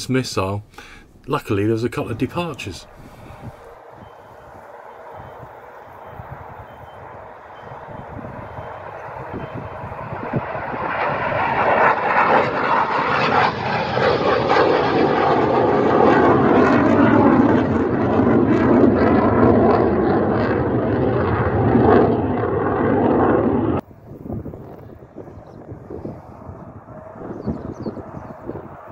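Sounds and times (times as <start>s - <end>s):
fighter jet taking off: 0.0s - 28.9s.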